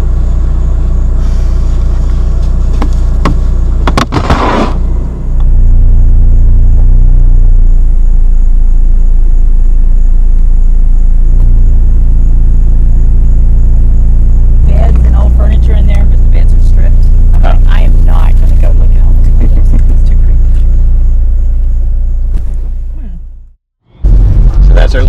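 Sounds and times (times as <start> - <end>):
car engine low drone: 0.0 - 25.0.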